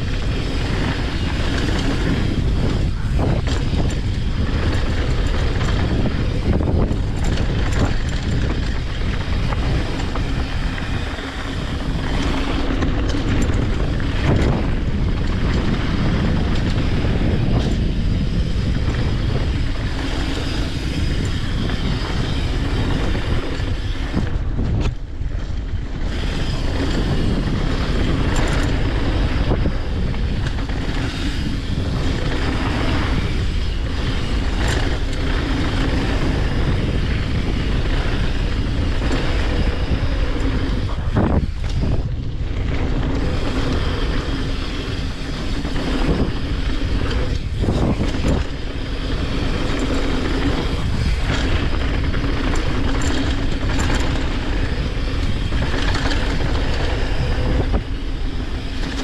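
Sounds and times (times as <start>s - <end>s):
bike rattling: 0.0s - 59.0s
bike tyres rolling on gravel: 0.0s - 59.0s.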